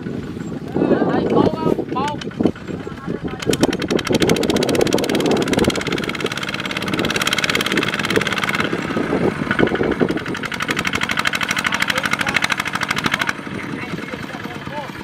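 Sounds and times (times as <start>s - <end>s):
diesel engine thumping: 0.0s - 15.0s.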